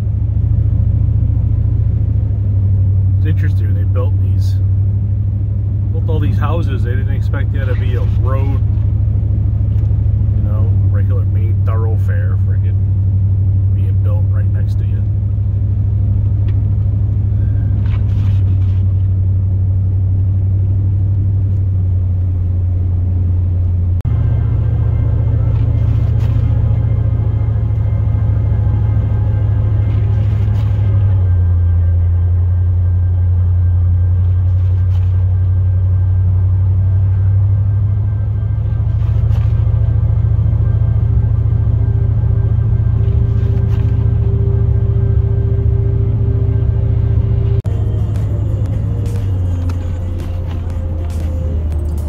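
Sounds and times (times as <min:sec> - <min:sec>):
truck engine and road drone: 0:00.0 - 0:52.0.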